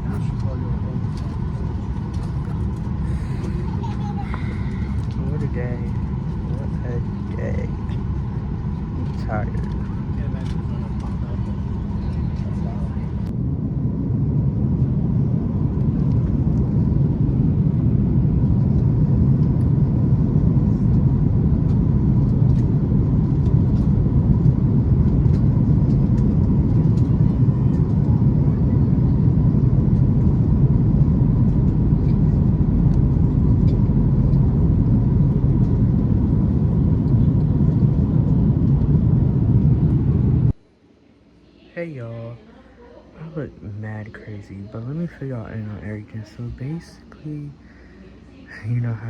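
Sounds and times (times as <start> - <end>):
vehicle rumble from inside cabin: 0.0 - 40.6
faint steady whine: 0.0 - 49.0.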